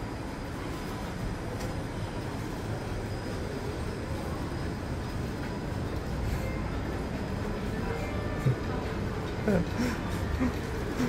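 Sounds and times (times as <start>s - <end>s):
low rumbling mall noise: 0.0s - 11.0s.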